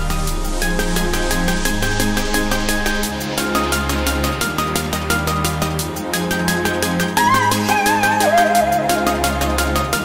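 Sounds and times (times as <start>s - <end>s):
electronic music with fast beat: 0.0s - 10.0s.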